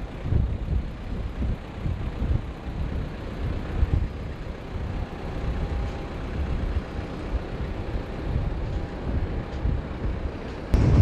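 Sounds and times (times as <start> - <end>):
jet engines running: 0.0 - 11.0
thin engine whine: 0.0 - 11.0
wind buffeting microphone: 0.0 - 11.0.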